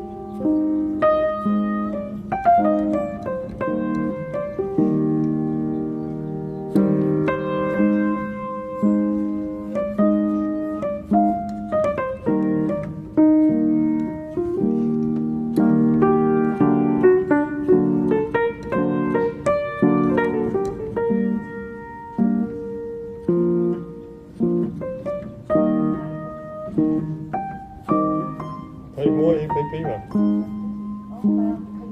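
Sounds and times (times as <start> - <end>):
gentle piano music: 0.0 - 31.9.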